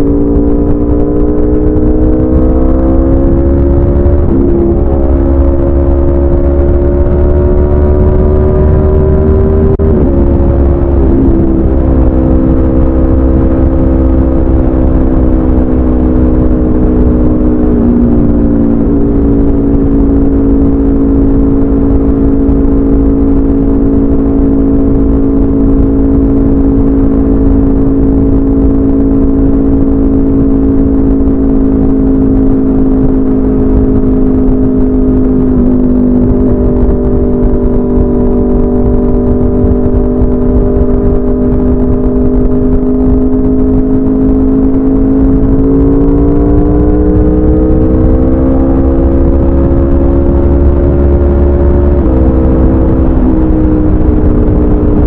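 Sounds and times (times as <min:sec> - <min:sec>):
low wind rumble: 0:00.0 - 0:55.0
motorcycle engine running loud: 0:00.0 - 0:55.0.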